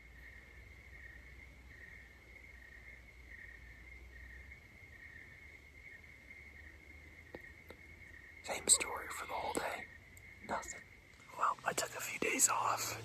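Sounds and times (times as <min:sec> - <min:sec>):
insect trill: 0:00.0 - 0:13.0.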